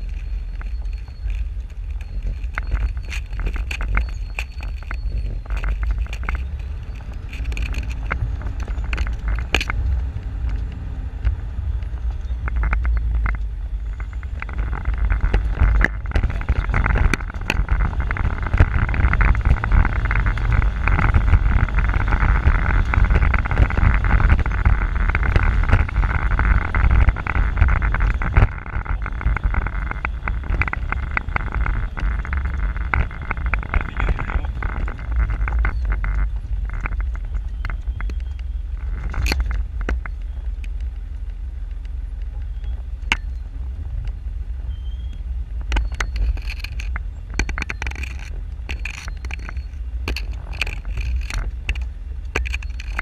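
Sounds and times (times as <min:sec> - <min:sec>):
off-road vehicle engine: 0:00.0 - 0:53.0.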